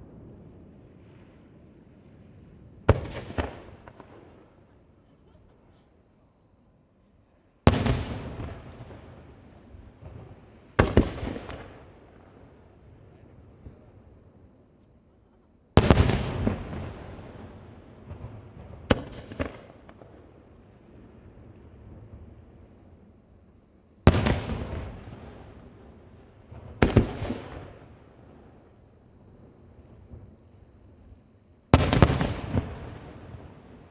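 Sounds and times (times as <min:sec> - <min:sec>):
firework crackles: 0:00.0 - 0:04.9, 0:07.6 - 0:14.1, 0:15.7 - 0:23.1, 0:24.0 - 0:33.9.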